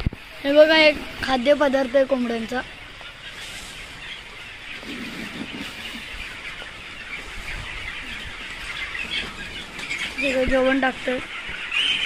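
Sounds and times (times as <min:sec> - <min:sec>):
chickens cheeping: 0:00.0 - 0:12.0.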